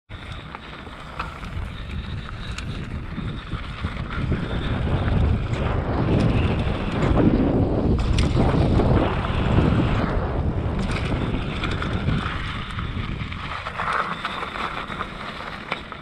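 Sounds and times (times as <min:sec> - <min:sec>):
bike clicks and rattles: 0:00.1 - 0:16.0
bike tyres rumbling on dirt: 0:00.1 - 0:16.0
wind buffeting microphone: 0:00.1 - 0:16.0.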